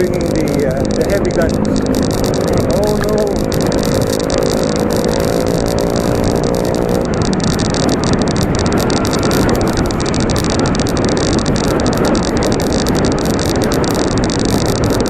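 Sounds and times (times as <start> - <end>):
engine humming: 0.0 - 15.0
passing traffic road noise: 0.0 - 15.0.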